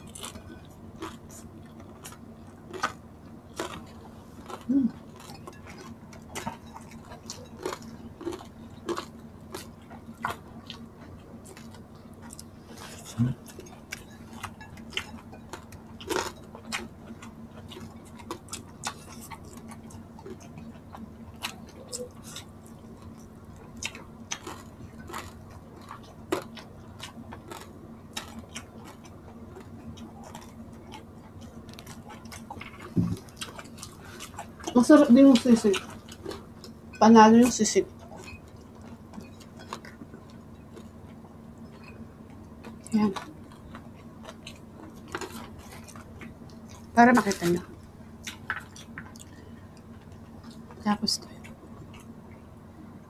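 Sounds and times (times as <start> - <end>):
chewing and mouth smacks: 0.0 - 36.8, 37.4 - 52.4
crispy food crunching: 0.0 - 52.2
steady low hum: 0.0 - 53.0.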